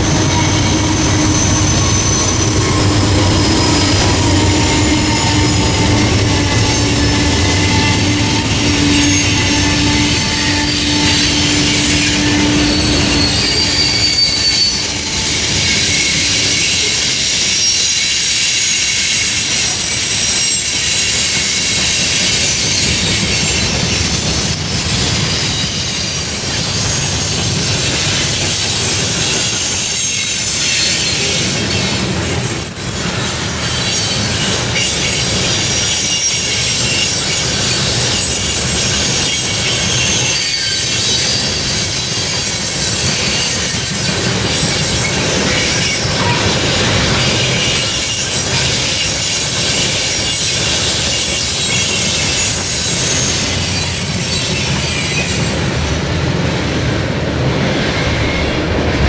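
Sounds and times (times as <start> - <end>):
wheels squealing: 0.0 - 55.8
train wheels rumbling on rail: 0.0 - 59.0.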